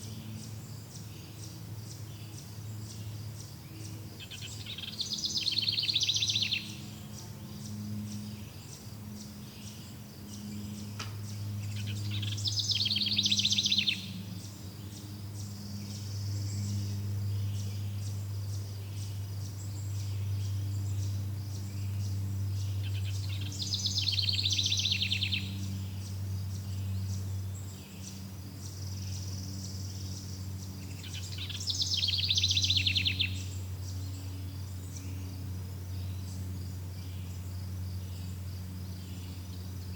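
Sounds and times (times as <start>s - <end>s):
faint high insect buzz: 0.0s - 39.9s
steady low hum: 0.0s - 39.9s
songbird trilling: 0.9s - 37.4s.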